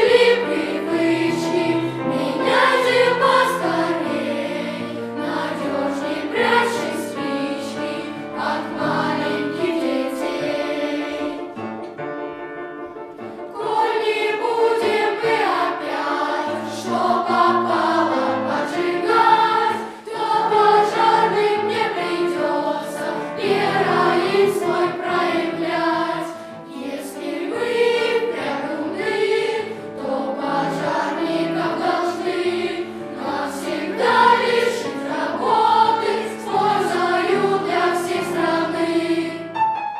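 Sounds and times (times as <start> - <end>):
boys' choir singing: 0.0 - 11.6, 13.5 - 39.6.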